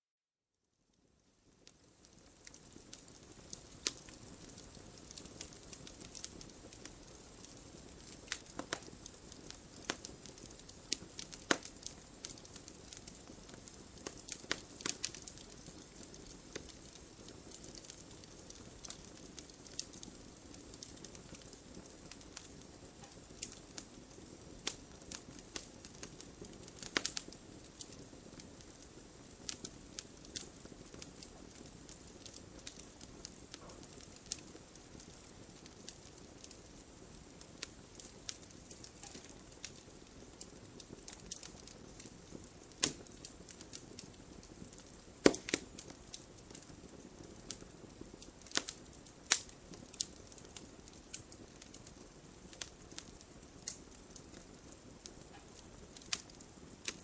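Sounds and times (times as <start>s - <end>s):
soft steady hiss: 0.0s - 57.0s
wood fire crackling: 0.9s - 57.0s.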